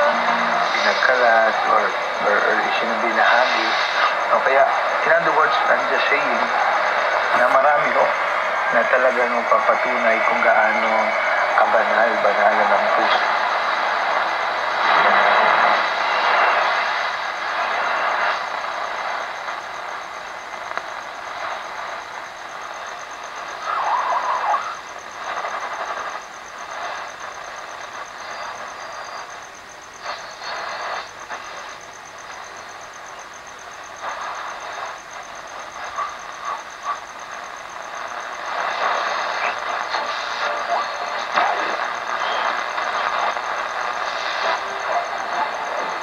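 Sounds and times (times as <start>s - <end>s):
radio static hiss: 0.0s - 46.0s
radio whistles: 0.0s - 46.0s
thin high whine: 0.0s - 46.0s.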